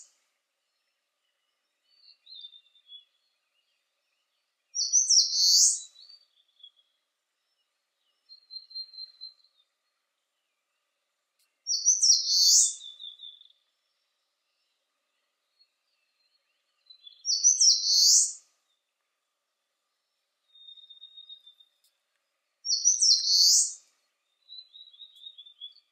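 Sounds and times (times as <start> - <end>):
high bird song phrases: 0.0 - 19.0, 19.8 - 21.9, 22.6 - 25.9.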